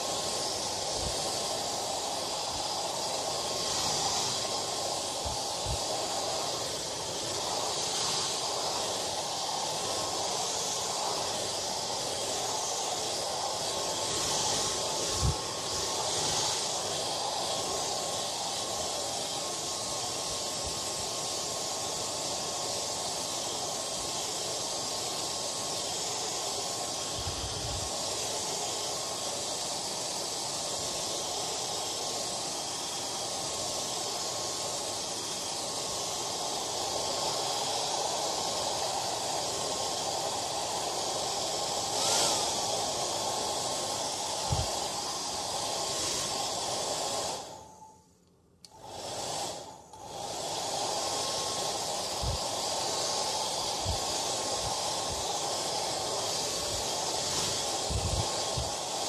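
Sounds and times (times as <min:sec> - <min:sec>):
hair dryer blowing: 0:00.0 - 0:59.0.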